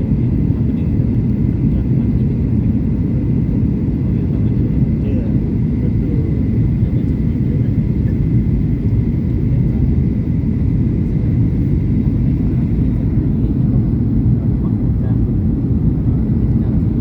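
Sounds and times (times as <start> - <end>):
airliner cabin engine drone: 0.0 - 17.0.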